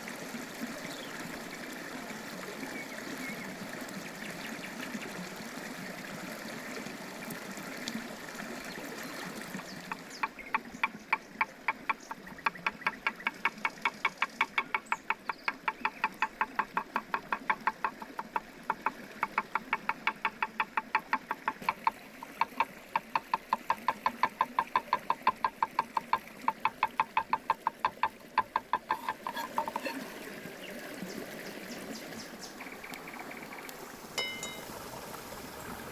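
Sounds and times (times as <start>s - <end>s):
water trickling: 0.0s - 35.9s.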